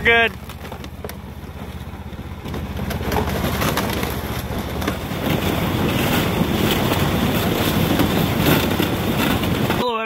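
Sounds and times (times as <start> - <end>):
snow machine engine and track rumbling: 0.0 - 10.0
wind buffeting microphone: 0.9 - 9.8.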